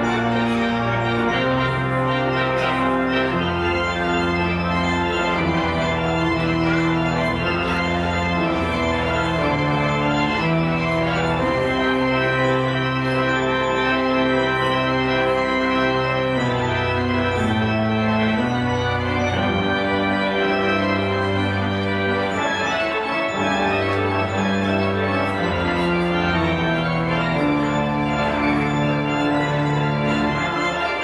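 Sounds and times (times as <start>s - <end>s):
pipe organ playing chords: 0.0s - 31.0s.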